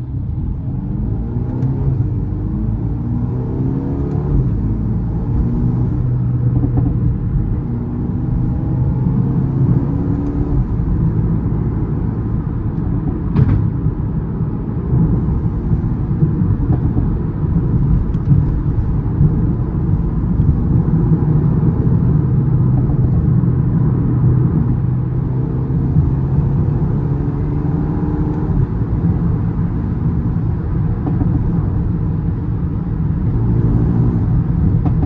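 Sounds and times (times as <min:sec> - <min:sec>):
car engine and exhaust running: 0:00.0 - 0:35.0.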